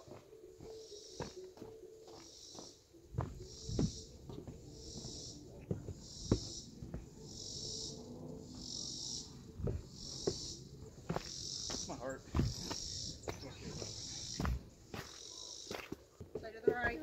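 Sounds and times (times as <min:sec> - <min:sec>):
insects buzzing in pulsing chorus: 0:00.0 - 0:16.0
footsteps on trail: 0:00.0 - 0:17.0.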